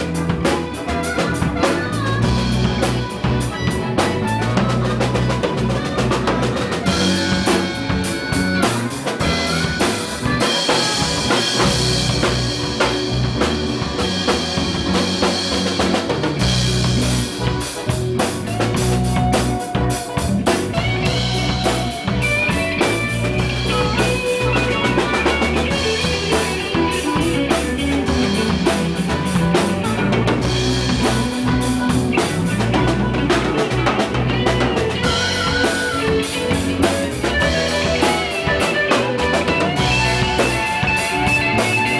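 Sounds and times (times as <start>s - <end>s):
bass drum: 0.0s - 41.9s
blues band playing: 0.0s - 41.9s
electric guitar: 0.0s - 41.9s
harmonica: 0.0s - 41.9s.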